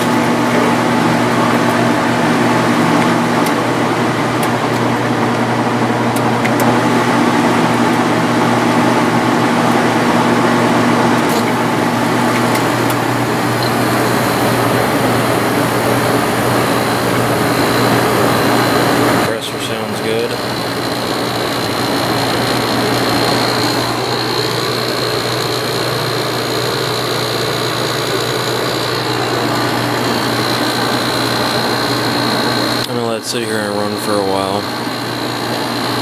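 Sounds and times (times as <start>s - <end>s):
air conditioner fan blowing: 0.0s - 36.0s.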